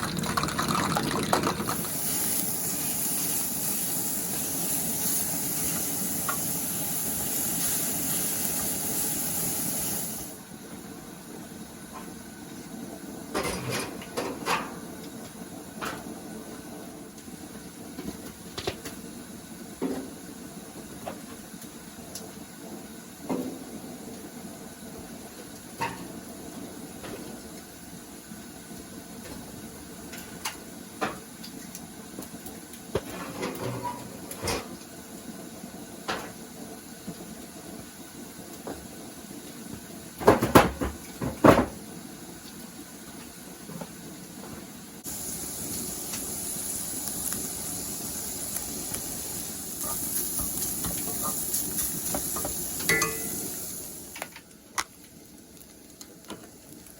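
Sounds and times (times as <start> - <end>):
food sizzling in a pan: 1.0 - 56.9.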